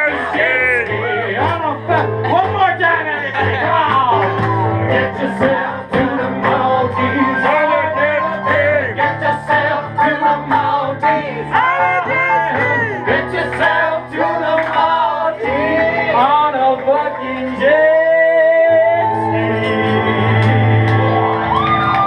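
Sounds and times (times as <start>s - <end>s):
low instrumental chords: 0.0s - 21.8s
person singing: 3.4s - 21.6s.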